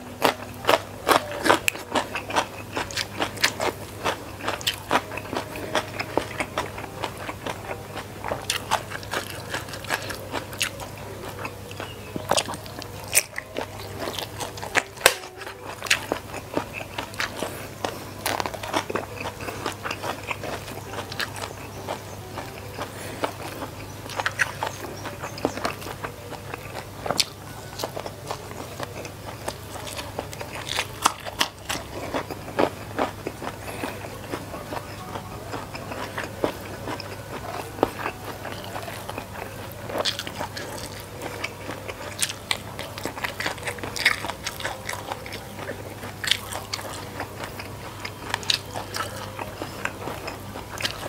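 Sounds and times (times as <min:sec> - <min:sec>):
crunching bites and chewing: 0:00.0 - 0:51.0.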